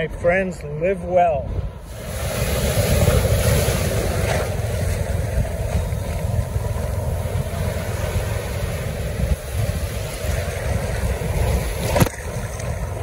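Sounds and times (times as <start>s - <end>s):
surf rushing water: 0.0s - 13.0s.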